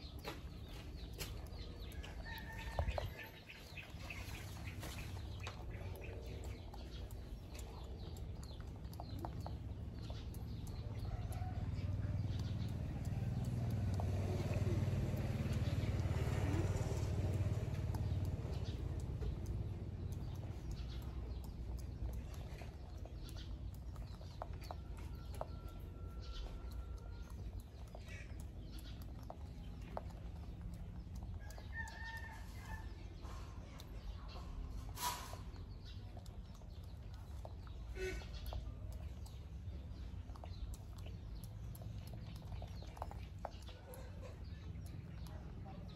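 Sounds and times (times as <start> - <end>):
chickens and birds calling: 0.0 - 45.9
low engine hum: 0.0 - 45.9.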